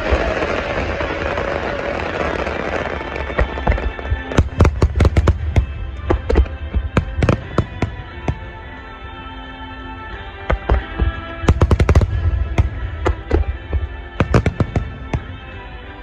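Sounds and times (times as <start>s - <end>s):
fireworks exploding: 0.0s - 8.8s, 10.2s - 16.0s
music: 0.0s - 16.0s.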